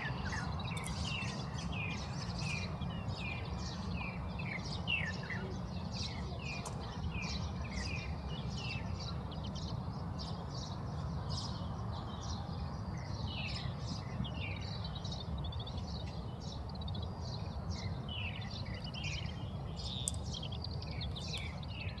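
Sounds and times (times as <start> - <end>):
finches chirping and twittering: 0.0 - 22.0.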